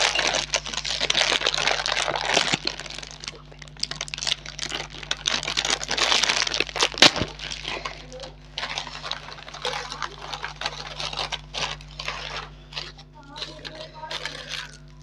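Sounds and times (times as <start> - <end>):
packet tearing: 0.0 - 15.0
plastic snack packet crinkling: 0.0 - 15.0
snacks rustling onto a plate: 0.0 - 15.0.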